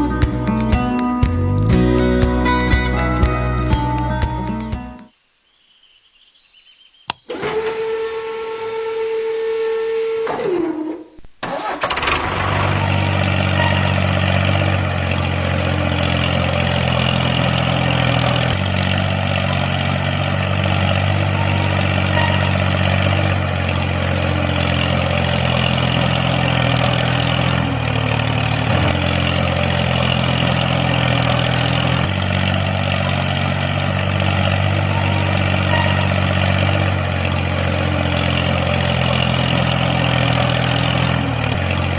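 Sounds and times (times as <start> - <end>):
engine starting and idling: 7.3 - 9.5, 10.2 - 41.9.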